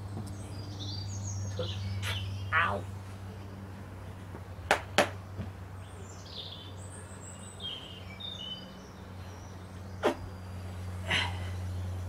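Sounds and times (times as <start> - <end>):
faint birdsong: 0.0 - 12.0
steady low hum: 0.0 - 12.0.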